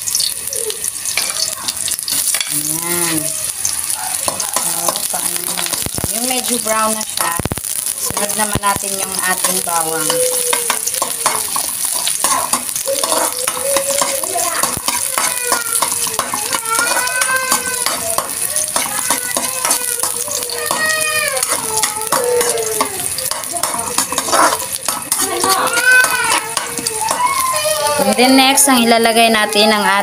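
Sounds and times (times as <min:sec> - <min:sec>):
high-pitched voices: 0:00.0 - 0:30.0
onions sizzling in hot oil: 0:00.0 - 0:30.0
metal spatula scraping a pan: 0:01.0 - 0:29.8.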